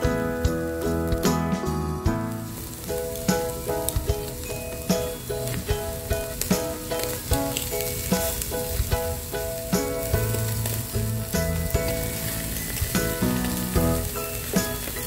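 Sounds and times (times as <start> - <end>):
meat sizzling on grill: 0.0 - 15.0
melodic background music: 0.0 - 15.0.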